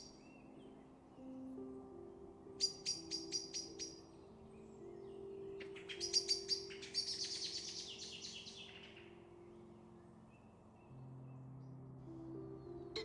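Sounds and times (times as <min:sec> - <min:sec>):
background music: 0:00.0 - 0:13.0
small bird singing: 0:00.0 - 0:13.0.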